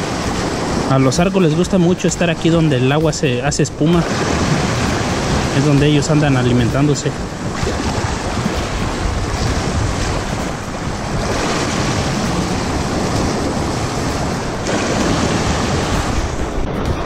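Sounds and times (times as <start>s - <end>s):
surf splashing against rocks: 0.0s - 17.0s
wind buffeting microphone: 0.0s - 17.0s.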